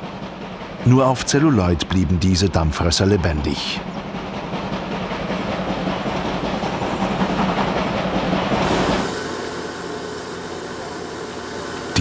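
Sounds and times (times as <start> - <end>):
steam train rumbling on rails: 0.0 - 12.0.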